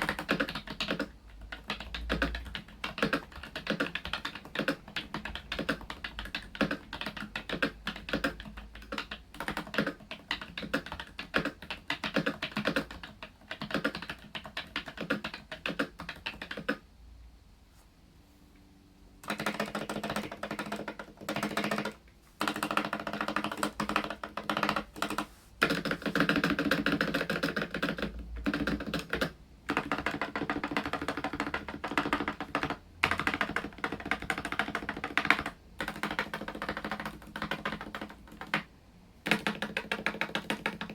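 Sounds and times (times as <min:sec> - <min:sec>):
large keys pressed in bursts: 0:00.0 - 0:16.8, 0:19.2 - 0:38.6
mechanical keyboard typing: 0:00.0 - 0:16.8, 0:19.2 - 0:40.9.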